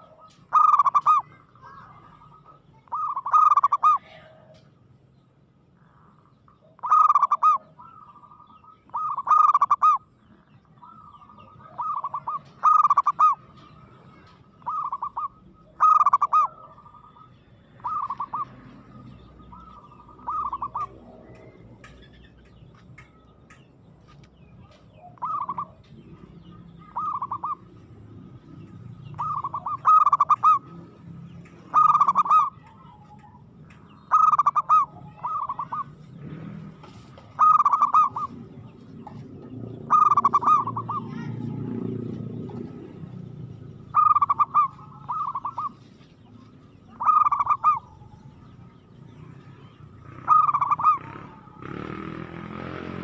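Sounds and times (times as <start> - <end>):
dove cooing: 0.0 - 4.6, 6.5 - 10.1, 10.8 - 22.6, 24.6 - 30.9, 31.5 - 33.4, 34.0 - 43.1, 43.8 - 48.6, 50.0 - 53.0.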